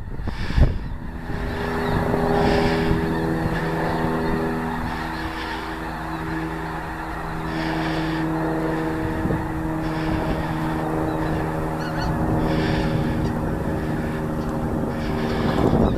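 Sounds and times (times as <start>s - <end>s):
wind noise: 0.0s - 6.8s, 7.4s - 15.9s
geese honking: 0.0s - 15.9s
low hum: 0.0s - 15.9s.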